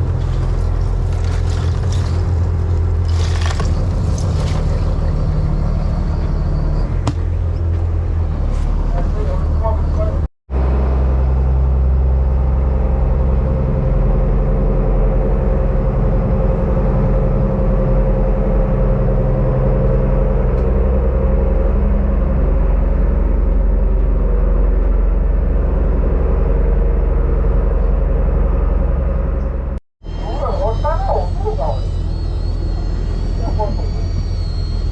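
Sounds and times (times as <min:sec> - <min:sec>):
boat engine low drone: 0:00.0 - 0:34.9
high-pitched engine whine: 0:00.0 - 0:34.9.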